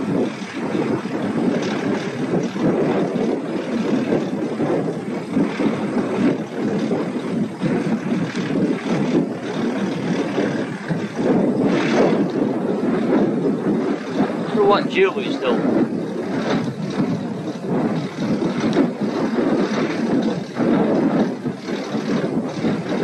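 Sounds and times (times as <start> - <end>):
harvest machinery rumbling: 0.0 - 23.0.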